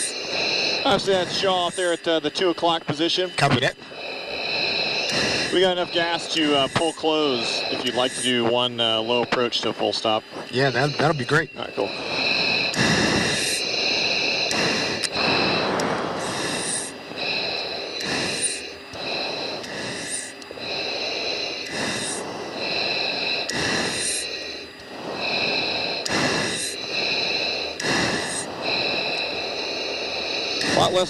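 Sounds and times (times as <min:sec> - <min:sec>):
breathing through oxygen mask: 0:00.0 - 0:31.0
steady high whine: 0:00.0 - 0:31.0.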